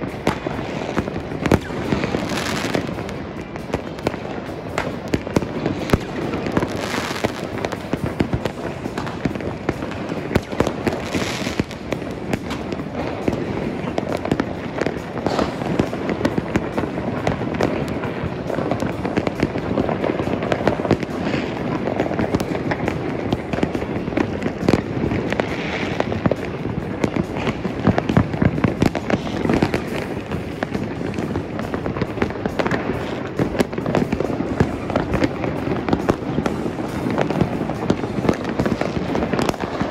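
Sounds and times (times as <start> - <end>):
firework hiss: 0.0 - 39.9
fireworks bangs and crackling: 0.0 - 39.9.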